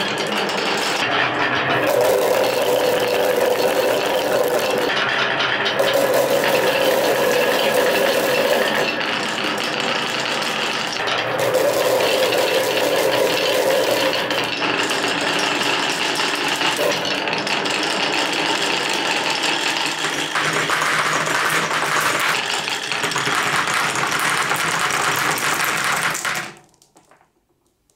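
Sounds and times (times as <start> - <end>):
marbles clattering on wooden tracks: 0.0 - 27.9.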